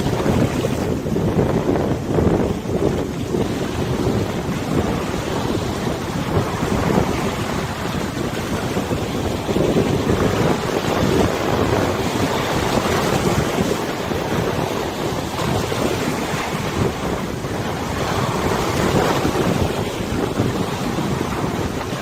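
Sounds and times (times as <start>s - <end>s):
river waves: 0.0s - 22.0s
wind gusting on microphone: 0.0s - 22.0s.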